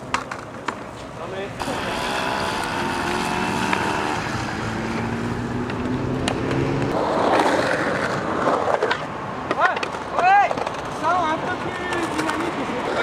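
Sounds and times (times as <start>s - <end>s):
loud rush of noise: 1.6s - 13.0s.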